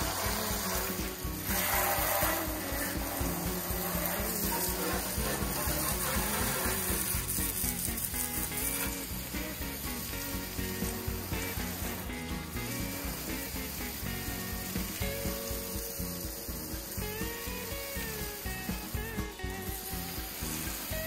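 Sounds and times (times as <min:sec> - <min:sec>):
background music with steady beat: 0:00.0 - 0:21.0
hose water jet spraying: 0:00.0 - 0:21.0.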